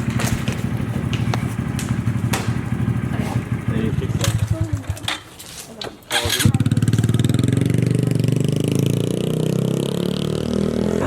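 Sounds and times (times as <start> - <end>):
vehicle engine running: 0.0 - 5.4, 6.1 - 11.0.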